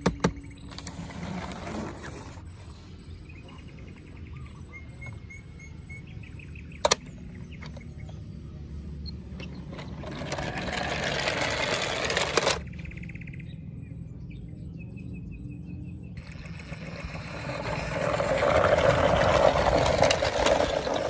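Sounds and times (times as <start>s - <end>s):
birds chirping softly: 0.0s - 11.8s, 12.4s - 21.0s
steady low hum: 0.0s - 21.0s.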